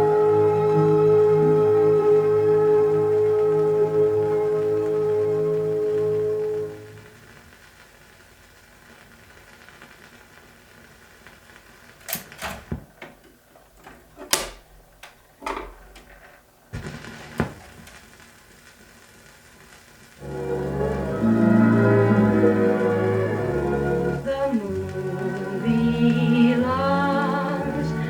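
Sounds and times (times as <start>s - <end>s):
record surface hiss: 0.0s - 28.0s.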